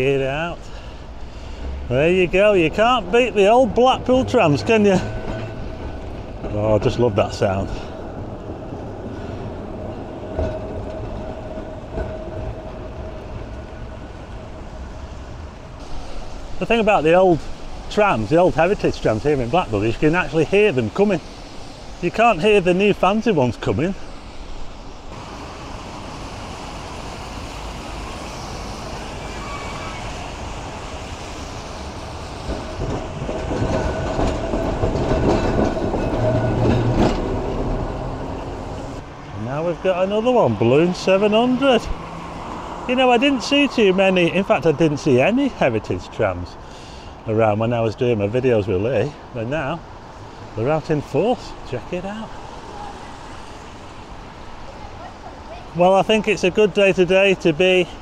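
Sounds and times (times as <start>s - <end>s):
tram rumbling on rails: 0.0s - 58.0s.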